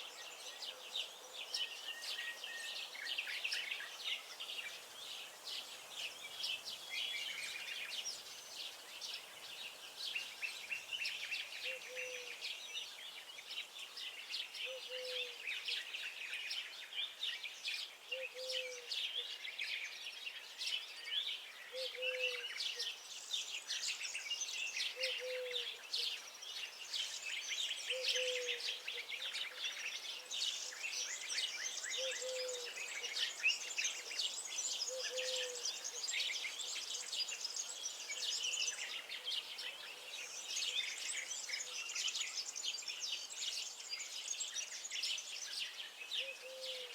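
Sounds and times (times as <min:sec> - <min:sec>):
songbirds chirping and singing: 0:00.0 - 0:46.9.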